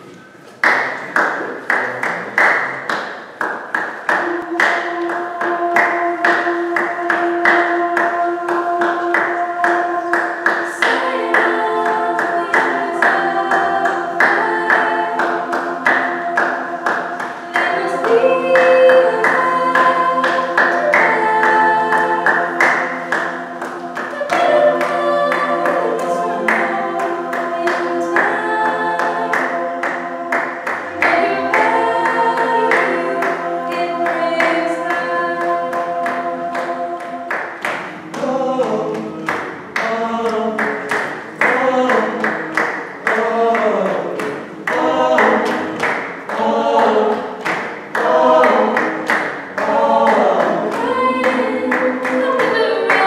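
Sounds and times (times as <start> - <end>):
a cappella group singing: 3.4 - 53.0.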